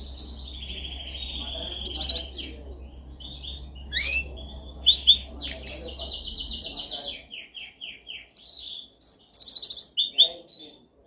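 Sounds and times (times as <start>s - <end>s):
steady low hum: 0.0s - 9.0s
canary singing trills: 0.0s - 11.0s.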